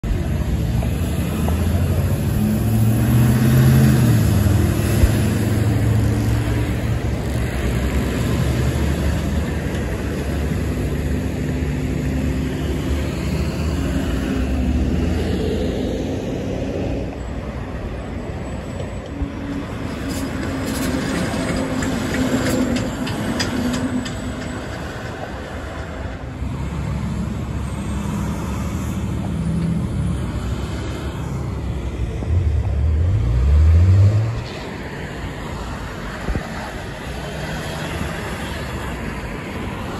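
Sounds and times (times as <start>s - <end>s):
cars driving past: 0.0s - 39.9s
heavy truck engine drone: 0.0s - 39.9s.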